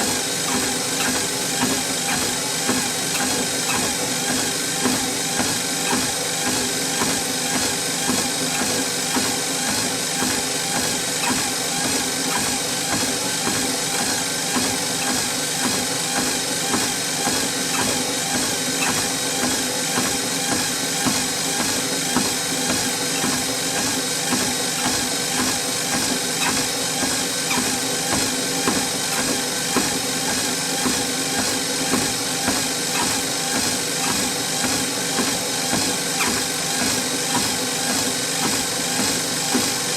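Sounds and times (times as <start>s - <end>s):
footsteps on treadmill belt: 0.0s - 39.9s
treadmill motor hum and belt hiss: 0.0s - 39.9s.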